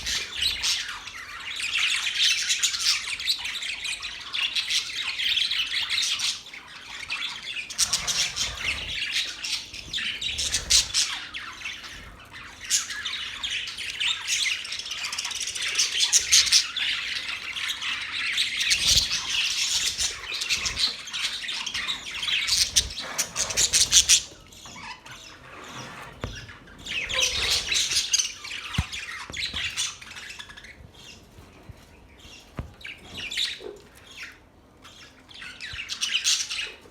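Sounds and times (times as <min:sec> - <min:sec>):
parrots chirping and chattering: 0:00.0 - 0:36.9.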